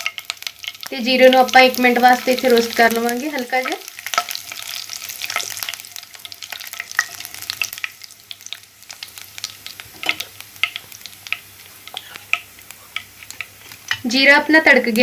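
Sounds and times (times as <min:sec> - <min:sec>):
seeds sizzling and popping in oil: 0:00.0 - 0:15.0.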